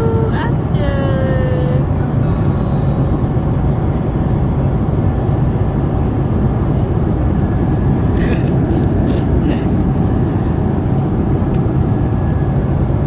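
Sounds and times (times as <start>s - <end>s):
jet engines rumbling: 0.0s - 13.0s
rushing air in cabin: 0.0s - 13.0s.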